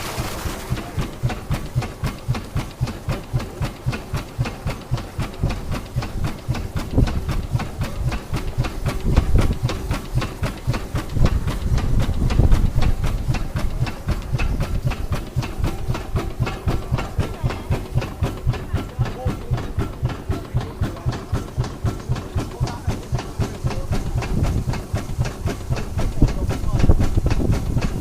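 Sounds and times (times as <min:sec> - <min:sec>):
old engine puffing: 0:00.0 - 0:28.0.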